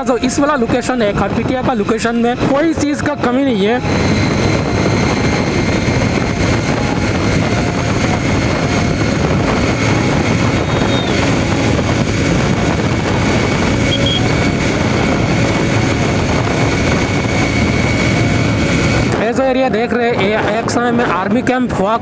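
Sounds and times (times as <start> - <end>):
wind rushing on microphone: 0.0 - 22.0
motorcycle engine running: 0.4 - 20.9.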